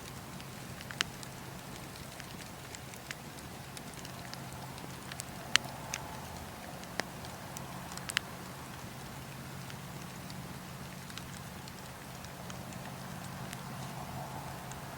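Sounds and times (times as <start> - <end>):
campfire crackling: 0.0 - 14.9
low hum and hiss: 0.0 - 14.9.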